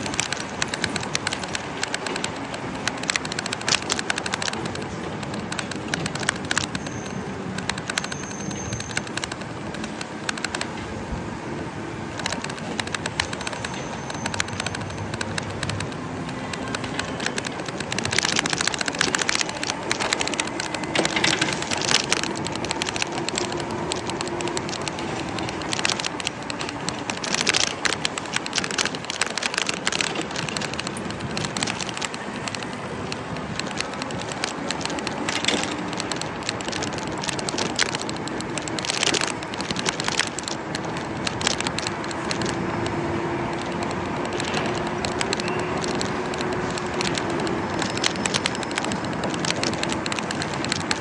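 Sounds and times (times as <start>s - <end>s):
light clicks and rattles: 0.0s - 51.0s
motor vehicle humming: 0.0s - 51.0s.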